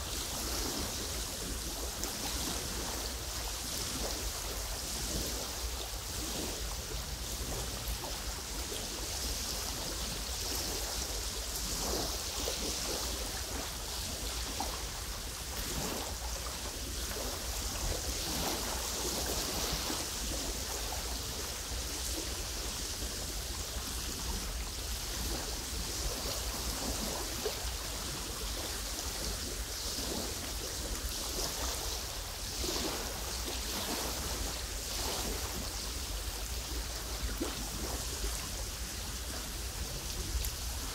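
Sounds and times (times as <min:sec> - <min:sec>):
soft water splashes: 0:00.0 - 0:40.9
waves lapping on pebbles: 0:00.0 - 0:40.9.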